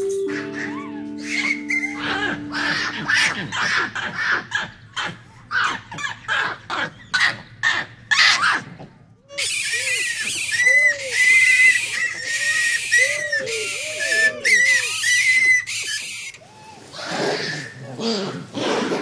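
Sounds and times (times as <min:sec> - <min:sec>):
monkey coo calls: 0:00.3 - 0:07.9, 0:09.3 - 0:18.9
monkeys making harsh calls: 0:00.3 - 0:08.7, 0:09.3 - 0:19.0.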